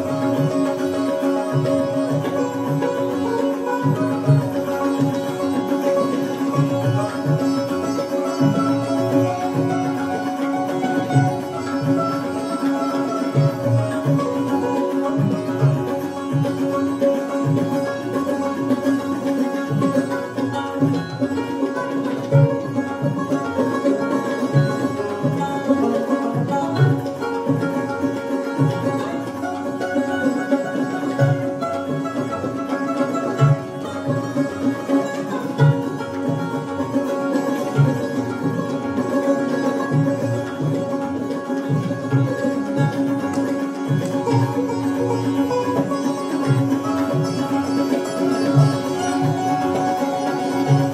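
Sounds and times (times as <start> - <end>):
sitar melody over drone: 0.0 - 50.9.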